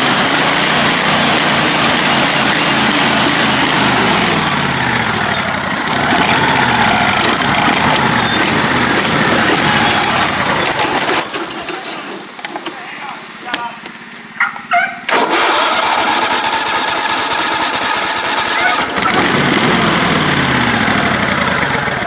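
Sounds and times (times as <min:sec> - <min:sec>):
riding mower engine running: 0:00.0 - 0:22.0.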